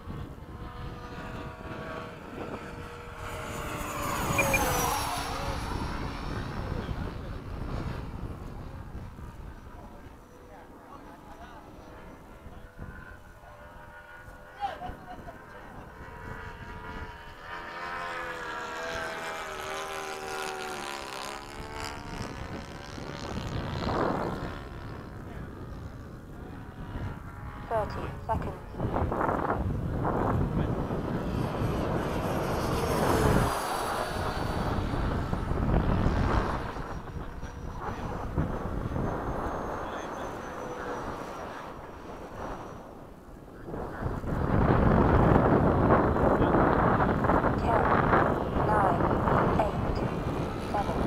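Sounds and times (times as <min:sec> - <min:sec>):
electric ducted fan whining: 0:00.0 - 0:51.0
wind rumble on microphone: 0:00.0 - 0:51.0.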